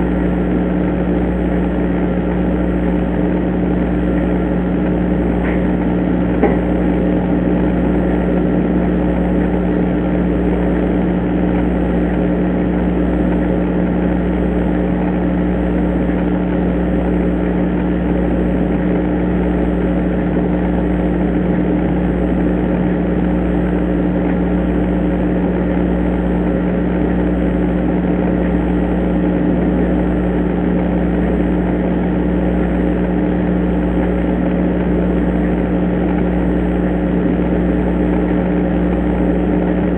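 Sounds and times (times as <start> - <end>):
electrical hum and hiss: 0.0 - 39.9.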